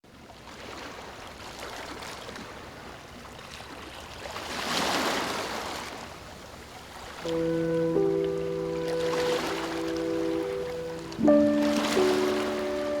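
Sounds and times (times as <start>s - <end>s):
ocean waves washing on shore: 0.1s - 13.0s.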